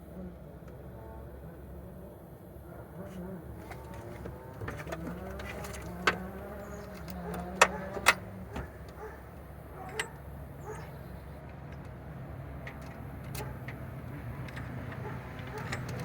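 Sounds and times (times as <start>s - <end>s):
go-kart engine running: 0.0s - 16.0s.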